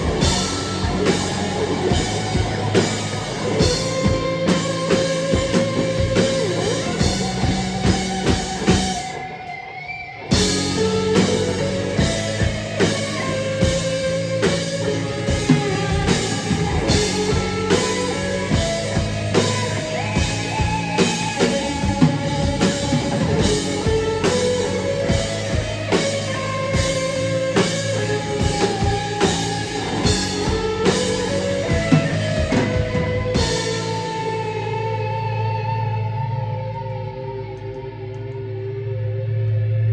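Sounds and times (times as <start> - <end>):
drum kit: 0.0 - 36.0
electric guitar: 0.0 - 39.9.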